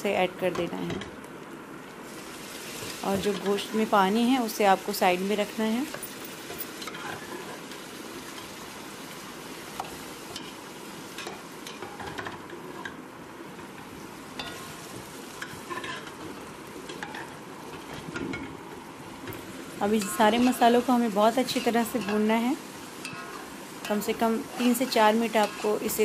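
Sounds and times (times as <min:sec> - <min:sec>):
meat sizzling in hot oil: 0:02.0 - 0:26.0.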